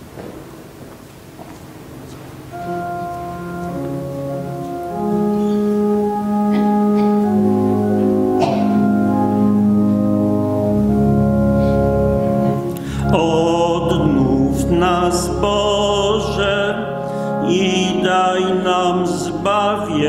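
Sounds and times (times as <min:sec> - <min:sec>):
organ playing slow chords: 0:00.0 - 0:20.0.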